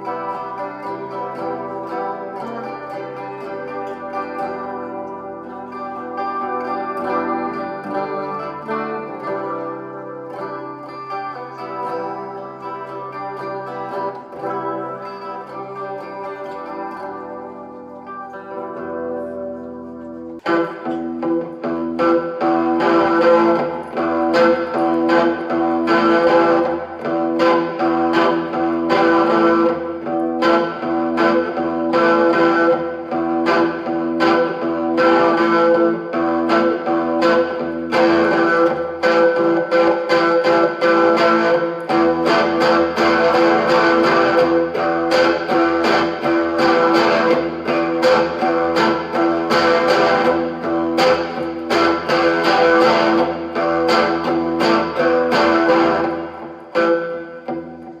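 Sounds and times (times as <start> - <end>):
electric guitar: 0.0 - 58.0.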